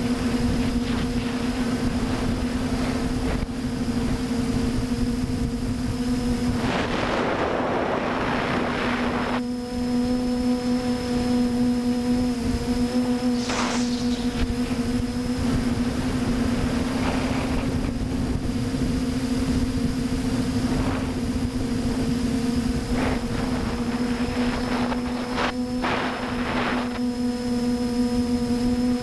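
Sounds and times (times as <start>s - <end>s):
wind noise: 0.0s - 10.1s, 12.2s - 27.6s
quadcopter motors buzzing: 0.0s - 29.0s.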